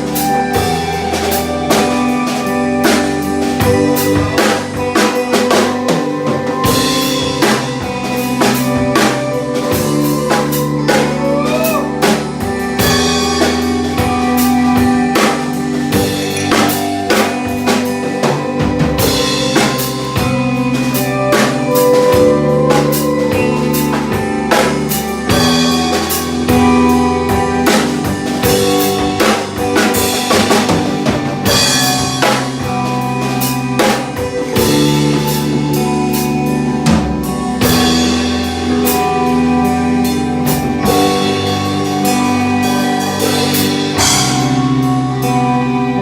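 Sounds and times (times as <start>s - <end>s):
bass guitar: 0.0s - 46.0s
drum kit beat: 0.0s - 46.0s
electric guitar: 0.0s - 46.0s.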